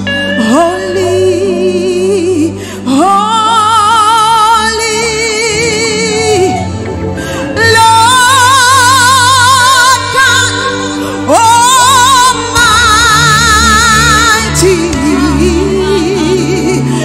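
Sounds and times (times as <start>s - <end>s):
keyboard and bass accompaniment: 0.0s - 17.0s.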